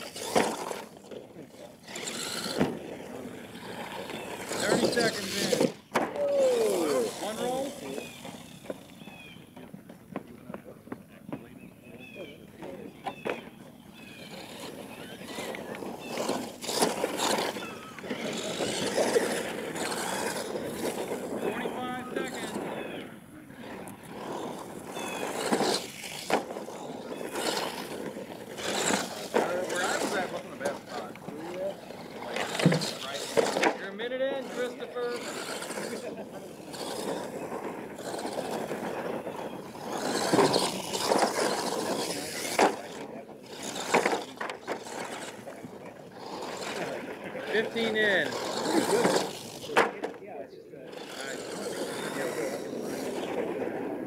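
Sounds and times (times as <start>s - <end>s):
rc truck motor and tyres: 0.0s - 54.0s.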